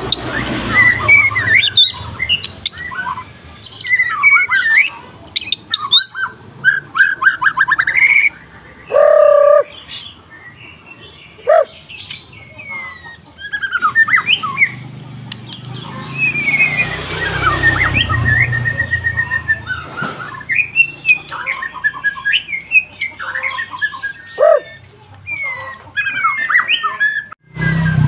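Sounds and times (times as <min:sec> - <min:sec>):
bird singing whistles and twitters: 0:00.0 - 0:14.8, 0:15.5 - 0:28.0.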